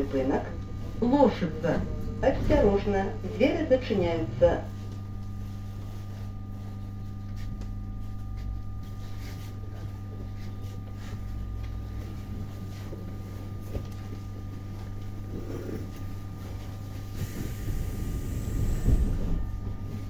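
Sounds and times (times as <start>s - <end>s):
electrical hum in train carriage: 0.0s - 20.0s.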